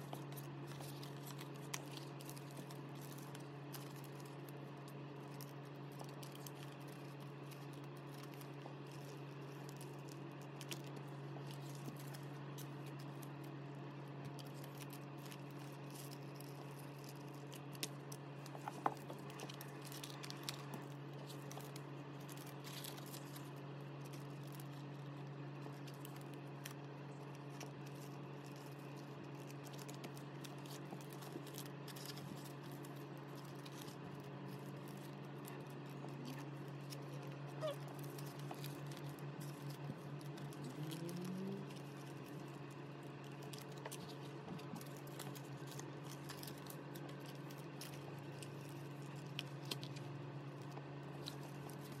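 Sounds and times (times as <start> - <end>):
plastic sleeves crinkling: 0.0 - 52.0
steady low hum: 0.0 - 52.0.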